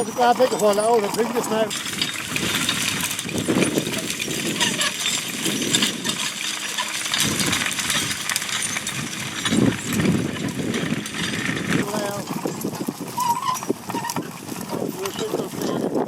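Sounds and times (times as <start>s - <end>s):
metallic clinking and rattling: 0.0s - 14.2s.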